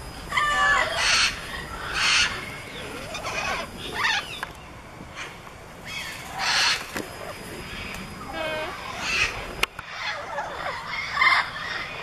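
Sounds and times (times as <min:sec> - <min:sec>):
parrots screeching: 0:00.3 - 0:04.4, 0:05.2 - 0:06.9, 0:07.6 - 0:12.0.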